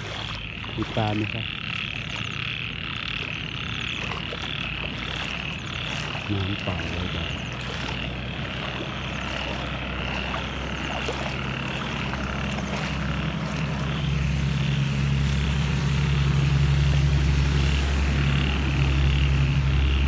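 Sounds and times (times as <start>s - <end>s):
frogs calling in chorus: 0.0s - 20.0s
motor engine humming: 0.0s - 20.0s.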